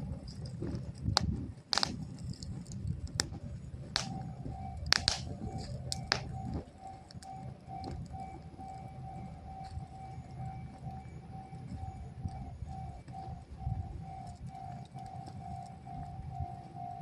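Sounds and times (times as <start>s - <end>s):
low rumble: 0.0s - 14.8s
bonfire crackling and popping: 0.0s - 17.0s
faint pulsing tone: 2.8s - 17.0s.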